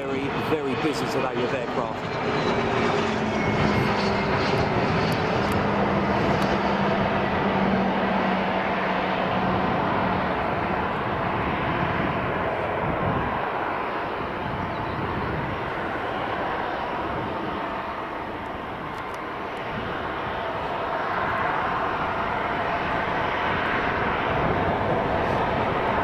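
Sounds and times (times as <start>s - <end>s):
aircraft engines running: 0.0s - 26.0s.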